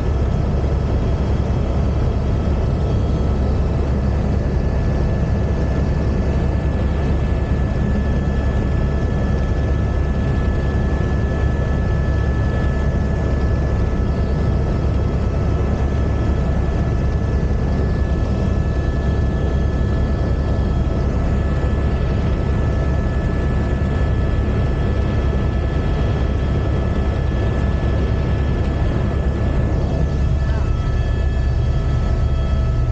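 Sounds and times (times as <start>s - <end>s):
constant high whine: 0.0s - 32.9s
helicopter engine and rotor noise: 0.0s - 32.9s.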